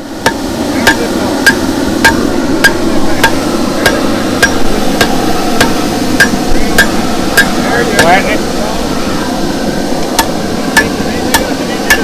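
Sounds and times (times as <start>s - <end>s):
rushing background noise: 0.0s - 12.0s
hammer striking steel on anvil: 0.2s - 8.3s, 10.2s - 12.0s.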